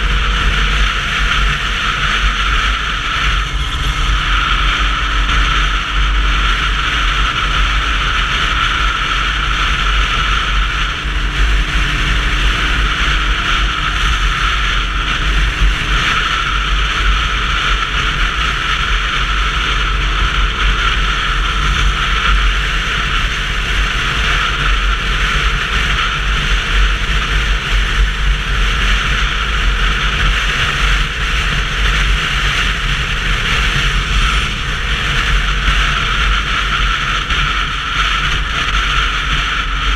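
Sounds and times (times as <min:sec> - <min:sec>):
motorcycle road noise: 0:00.0 - 0:39.9
wind buffeting microphone: 0:00.0 - 0:39.9.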